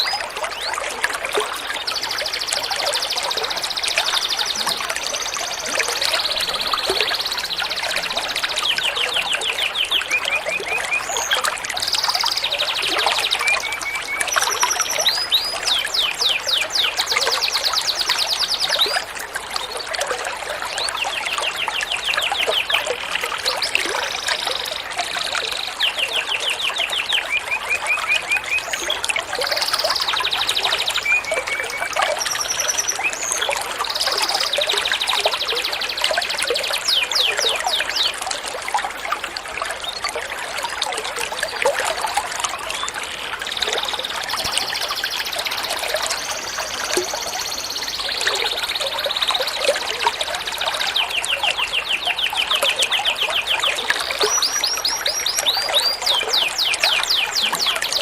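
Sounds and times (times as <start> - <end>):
songbird calls and trills: 0.0 - 38.3, 41.4 - 58.0
running water trickling: 0.0 - 58.0.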